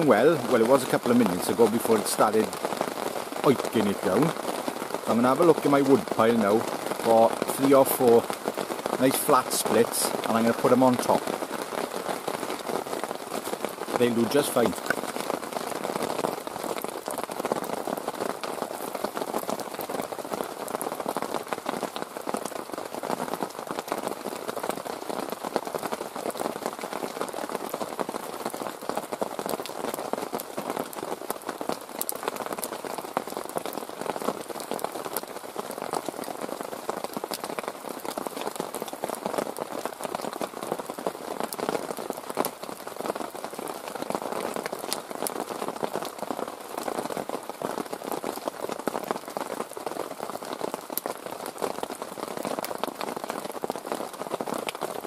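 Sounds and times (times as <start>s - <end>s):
heavy rain on a tarp: 0.0s - 55.0s.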